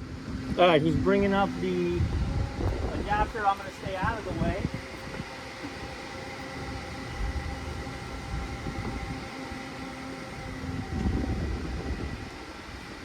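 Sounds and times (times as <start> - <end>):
steady whine: 0.0 - 13.0
truck engine rumble: 0.0 - 13.0.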